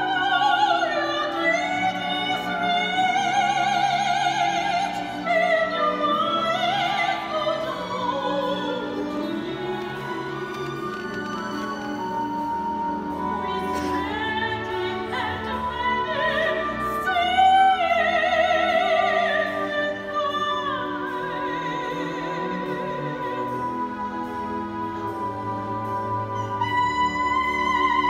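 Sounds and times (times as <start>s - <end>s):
operatic singing with vibrato: 0.0s - 28.0s
orchestra playing: 0.0s - 28.0s.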